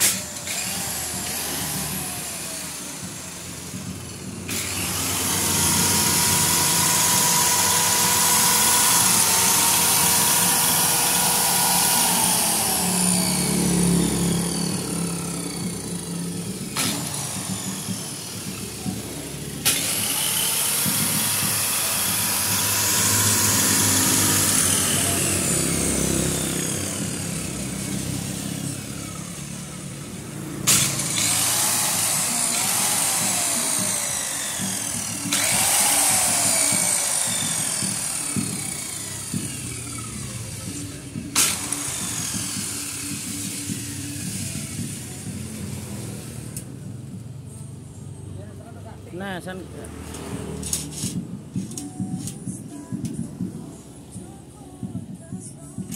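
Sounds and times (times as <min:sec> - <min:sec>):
circular saw motor whine: 0:00.0 - 0:46.6.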